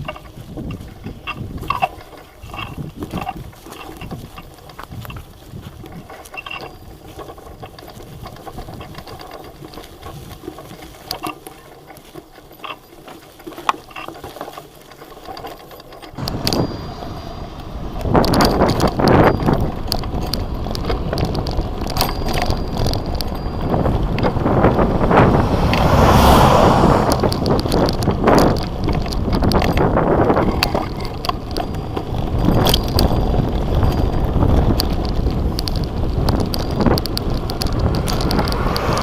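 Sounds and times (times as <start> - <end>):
wind buffeting microphone: 0.0 - 11.1, 16.2 - 39.0
bicycle on rough track: 0.0 - 39.0
bike clicks and rattles: 0.0 - 39.0.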